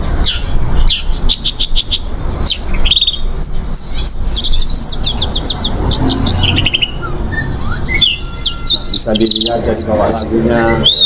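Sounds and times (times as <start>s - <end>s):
bird singing high chirps: 0.0s - 11.0s.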